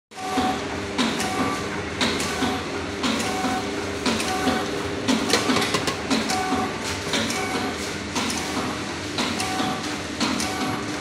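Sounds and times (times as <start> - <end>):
packing machine rhythmic clatter: 0.2 - 11.0.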